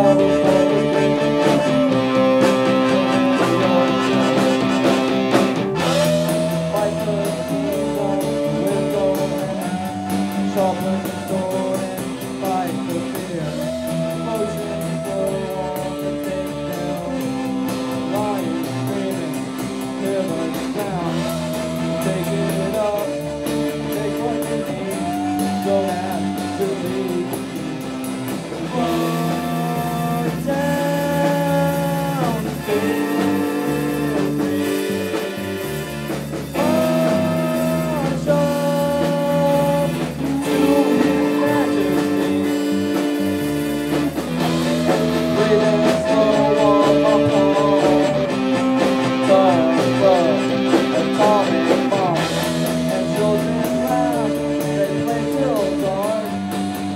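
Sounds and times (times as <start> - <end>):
man singing long wavering notes: 0.0 - 4.8, 5.8 - 35.8, 36.5 - 43.6, 44.2 - 56.9
electric guitar: 0.0 - 56.9
rock band playing live: 0.0 - 56.9.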